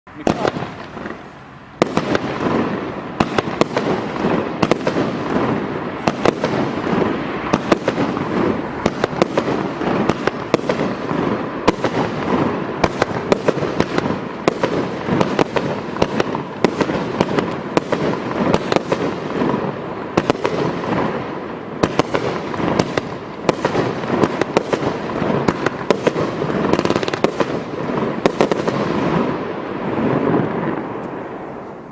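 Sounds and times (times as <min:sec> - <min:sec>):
dense firework crackle: 0:00.1 - 0:31.9
firework sharp reports: 0:00.1 - 0:31.9.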